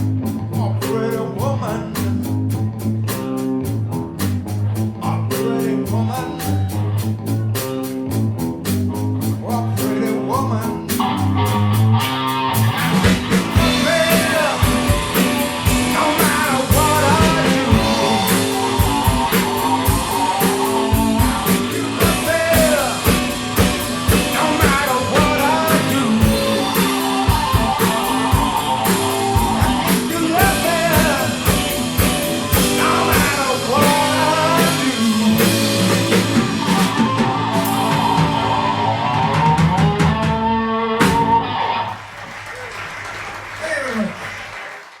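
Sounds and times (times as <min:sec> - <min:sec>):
drum kit: 0:00.0 - 0:41.8
guitar and bass riff: 0:00.0 - 0:42.0
blues-rock band playing: 0:00.0 - 0:42.2.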